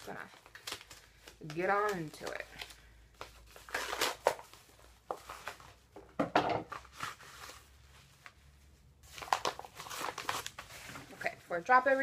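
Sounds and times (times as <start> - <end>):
packaging rustling and tearing: 0.0 - 6.0, 6.6 - 12.0.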